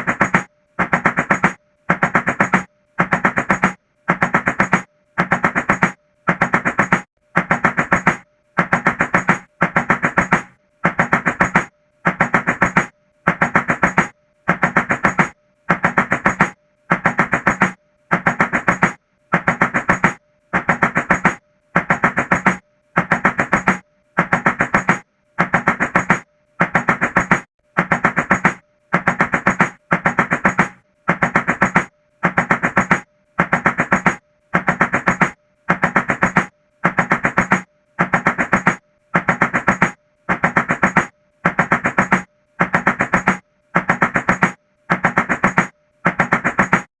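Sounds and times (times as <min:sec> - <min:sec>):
rapid knocking on a door: 0:00.0 - 0:46.9.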